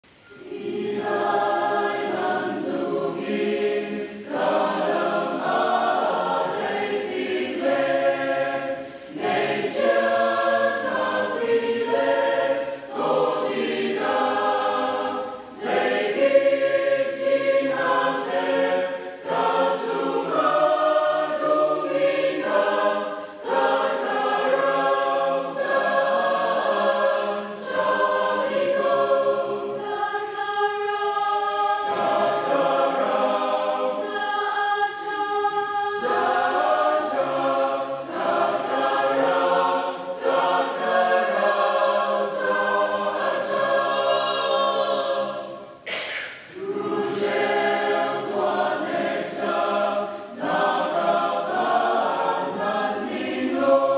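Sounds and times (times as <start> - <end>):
choir singing a hymn: 0.0 - 53.9.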